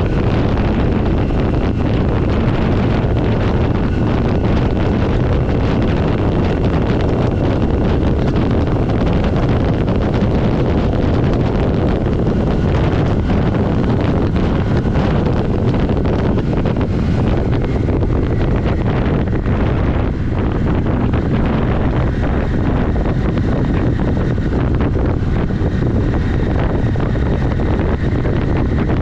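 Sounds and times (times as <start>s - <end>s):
motorcycle running: 0.0s - 29.0s
wind buffeting microphone: 0.0s - 29.0s.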